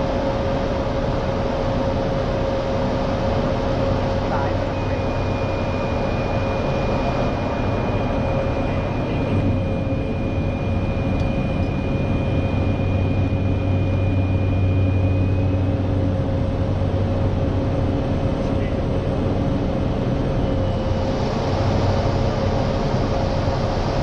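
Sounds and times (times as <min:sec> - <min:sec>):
turboprop engine running: 0:00.0 - 0:24.0.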